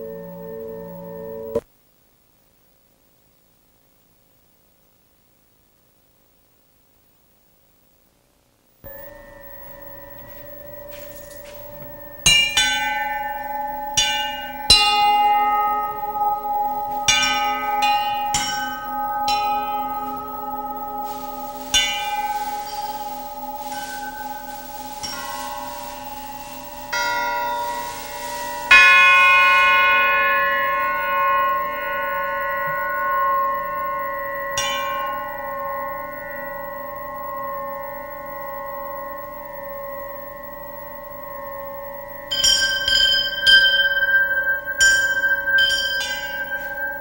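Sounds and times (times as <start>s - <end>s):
hissing shimmer: 8.9s - 47.0s
metal rods struck ringing: 8.9s - 47.0s.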